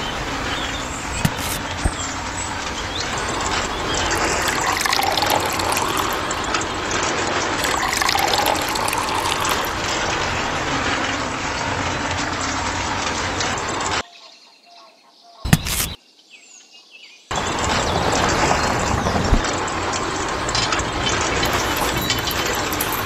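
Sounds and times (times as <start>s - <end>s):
water splashing pour: 0.0s - 14.0s, 17.3s - 23.0s.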